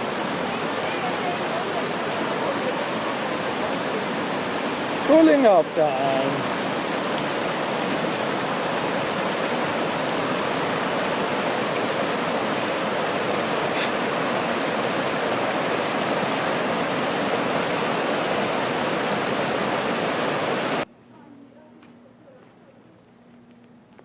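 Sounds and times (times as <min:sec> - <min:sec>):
rushing stream water: 0:00.0 - 0:20.9.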